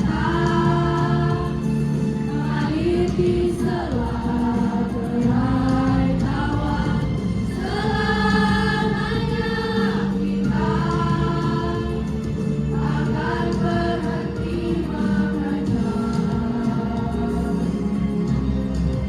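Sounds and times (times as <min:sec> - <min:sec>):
children's choir singing: 0:00.0 - 0:18.5.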